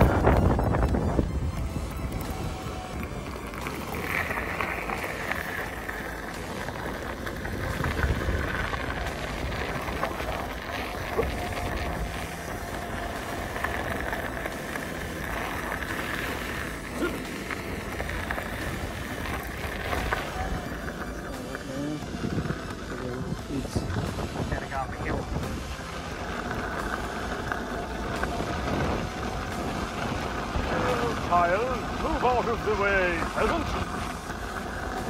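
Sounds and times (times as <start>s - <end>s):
tyre noise on gravel: 0.0s - 35.0s
wind buffeting microphone: 0.0s - 35.0s.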